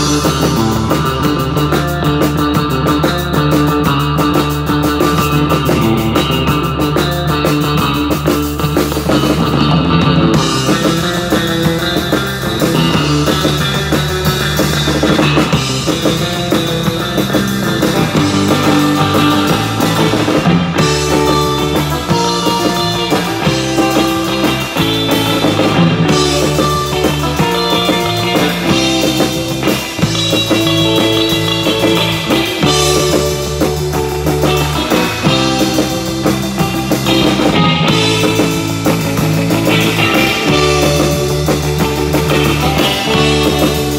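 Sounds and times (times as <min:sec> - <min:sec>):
drum kit: 0:00.0 - 0:43.9
lead electric guitar: 0:00.0 - 0:43.9
second electric guitar: 0:00.0 - 0:43.9.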